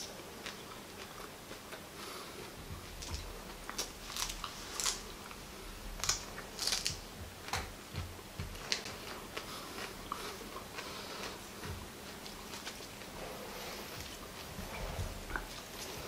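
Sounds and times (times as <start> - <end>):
person chewing crunchy flowers: 0.0 - 16.0.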